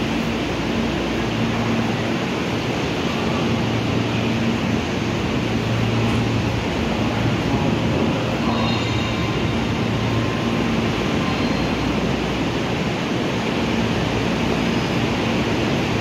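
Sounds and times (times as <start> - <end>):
stopped train whirring: 0.0 - 16.0.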